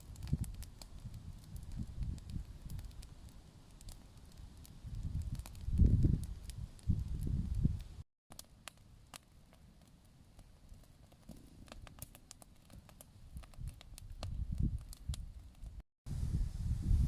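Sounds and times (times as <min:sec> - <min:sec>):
campfire crackling: 0:00.0 - 0:15.8.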